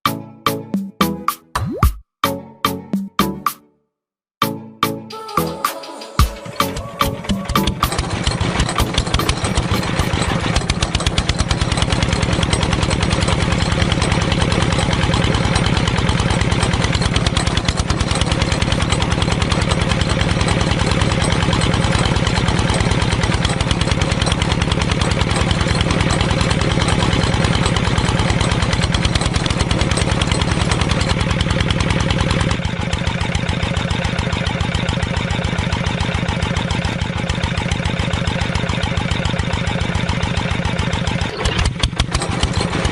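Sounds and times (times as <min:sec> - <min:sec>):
small engine running: 0:05.8 - 0:42.9.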